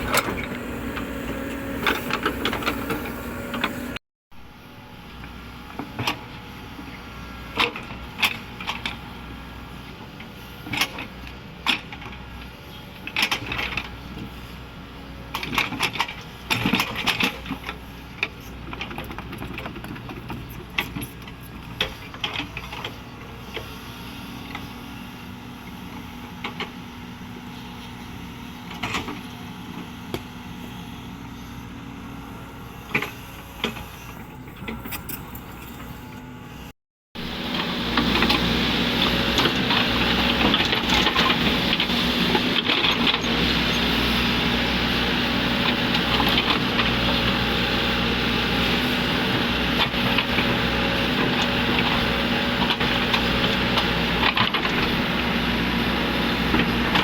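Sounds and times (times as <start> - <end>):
excavator engine humming: 0.0 - 57.0.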